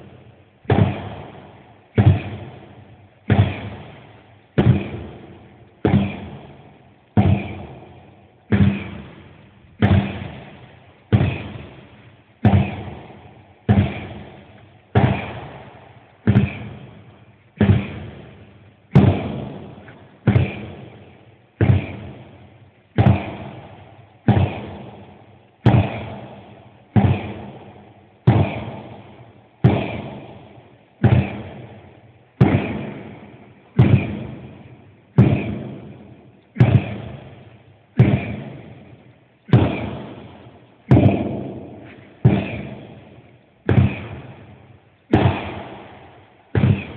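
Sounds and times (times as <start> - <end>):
sledgehammer thudding on tyre: 0.7 - 21.0, 21.6 - 22.4, 23.0 - 46.9.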